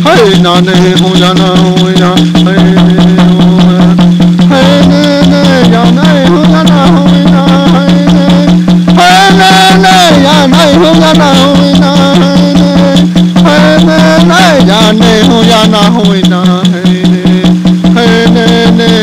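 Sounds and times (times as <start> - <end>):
low drone: 0.0 - 18.4
quick rattle beat: 0.0 - 19.0
sliding melody: 0.0 - 19.0.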